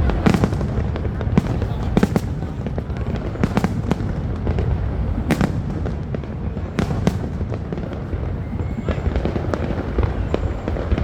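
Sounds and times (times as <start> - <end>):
distant fireworks rumble: 0.0 - 11.0
fireworks bangs and cracks: 0.0 - 11.0.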